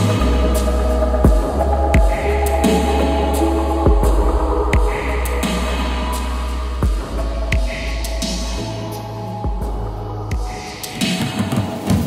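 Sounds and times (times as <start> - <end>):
deep held bass: 0.0 - 10.5
sustained synth chords: 0.0 - 11.1.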